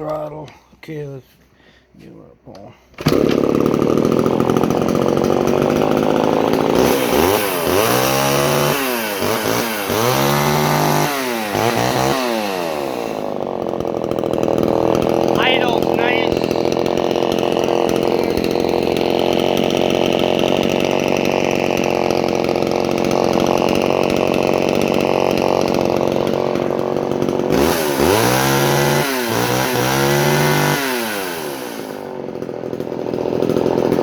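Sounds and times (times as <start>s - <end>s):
chainsaw engine idling and revving: 2.5s - 34.0s.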